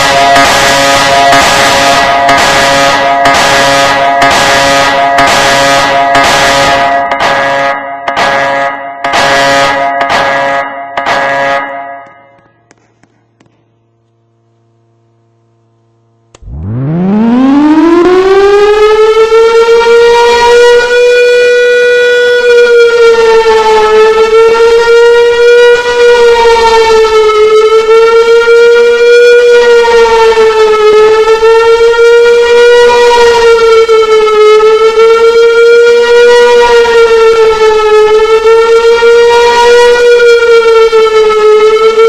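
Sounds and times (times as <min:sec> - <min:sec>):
warning siren wailing: 0:00.0 - 0:12.7, 0:16.4 - 0:42.0.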